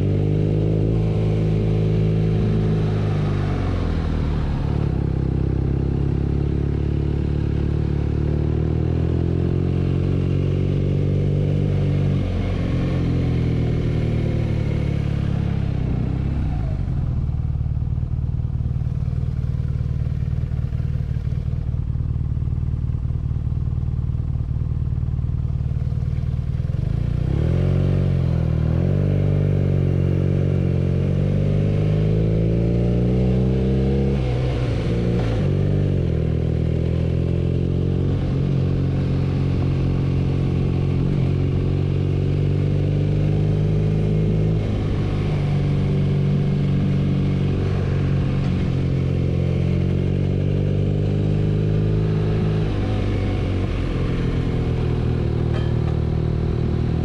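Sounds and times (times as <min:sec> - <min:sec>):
motorcycle engine revving: 0:00.0 - 0:23.2, 0:23.8 - 0:57.0.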